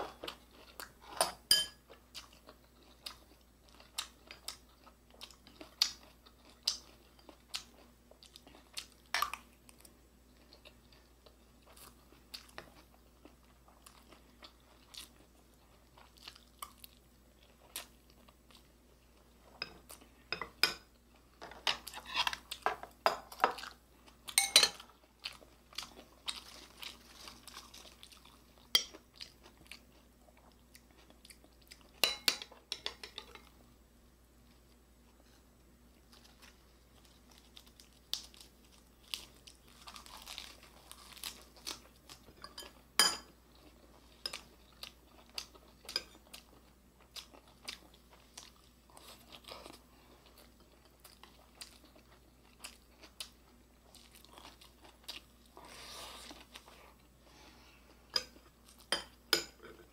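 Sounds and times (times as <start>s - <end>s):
person chewing food: 1.8s - 33.7s, 34.5s - 59.9s.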